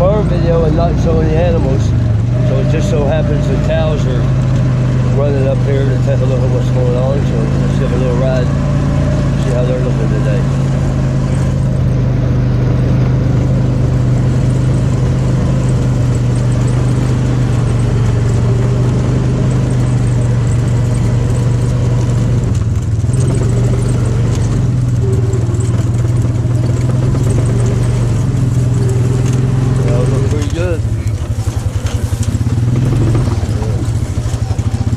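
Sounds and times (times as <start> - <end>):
vehicle engine humming: 0.0 - 34.9.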